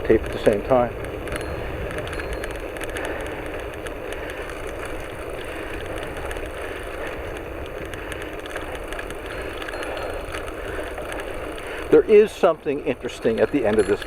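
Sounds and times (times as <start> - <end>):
bicycle tyre road noise: 0.0 - 14.0
light clicks and rattles: 0.0 - 14.0.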